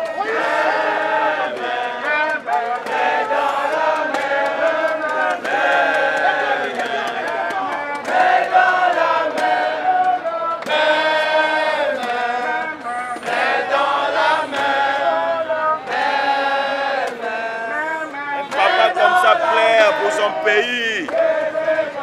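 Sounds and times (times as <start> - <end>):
group chanting in held notes: 0.0 - 22.0.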